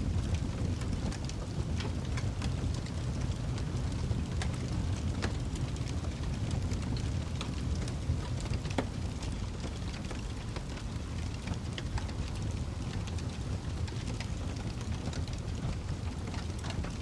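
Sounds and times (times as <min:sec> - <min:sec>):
burning logs crackling and popping: 0:00.0 - 0:17.0
fire flames rumbling: 0:00.0 - 0:17.0.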